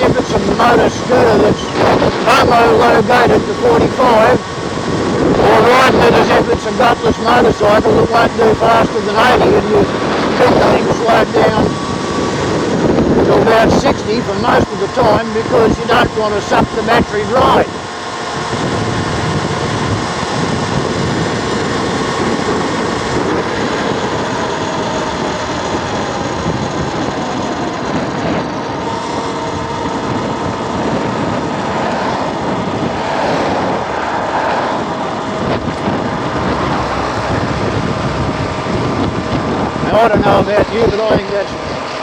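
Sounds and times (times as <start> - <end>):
faint steady whine: 0.0 - 42.0
wind rushing over microphone: 0.0 - 42.0.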